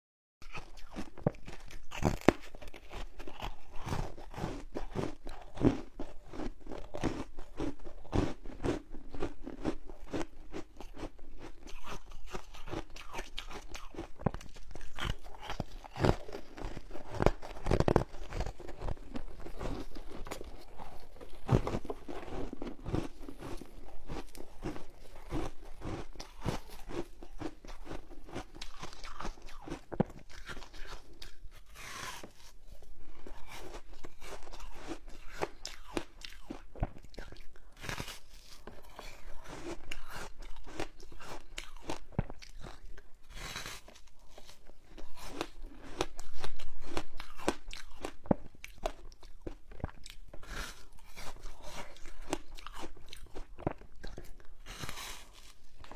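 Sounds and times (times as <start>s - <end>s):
crunching ice while chewing: 0.4s - 55.9s.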